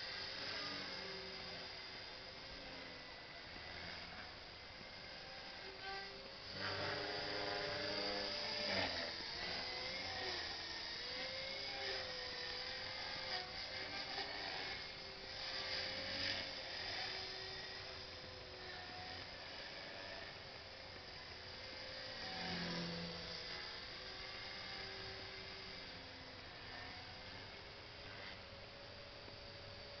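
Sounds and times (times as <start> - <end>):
rc helicopter whine: 0.0 - 30.0.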